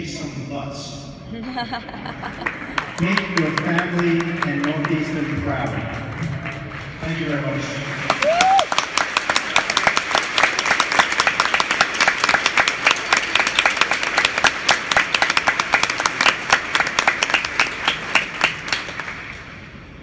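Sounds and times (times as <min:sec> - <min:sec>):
audience applauding: 0:01.6 - 0:19.8.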